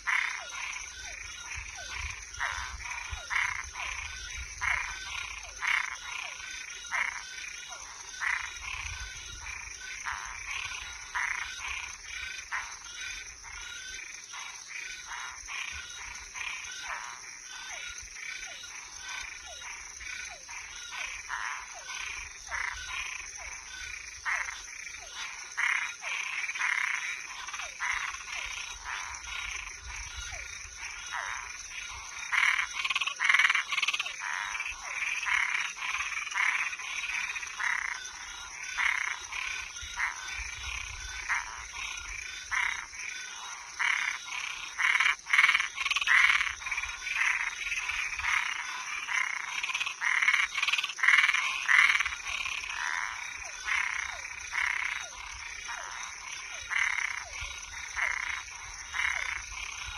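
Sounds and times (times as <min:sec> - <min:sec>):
frogs calling: 0:00.0 - 0:59.9
insect trill: 0:00.0 - 0:59.9.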